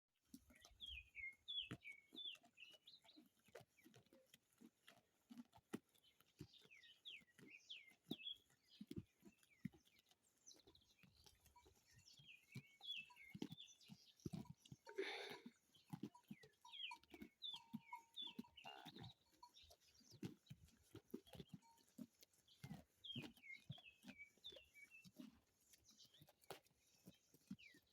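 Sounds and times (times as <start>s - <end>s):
small birds chirping: 0.2s - 4.4s, 6.0s - 27.9s
sheep chewing grass: 0.2s - 27.9s.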